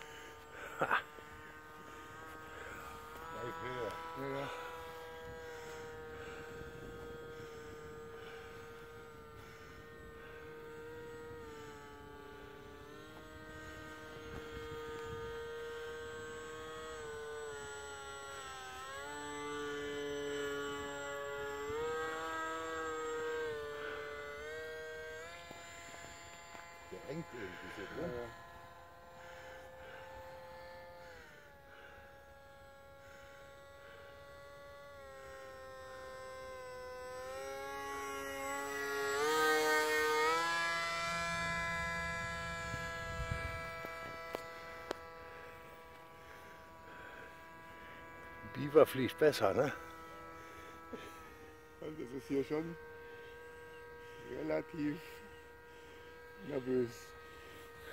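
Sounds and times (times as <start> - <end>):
model plane motor whining: 0.0 - 57.9.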